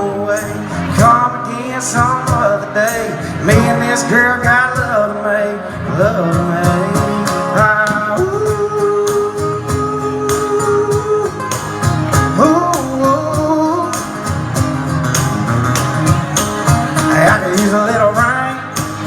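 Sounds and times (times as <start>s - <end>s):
country music with guitar and drums: 0.0s - 19.0s.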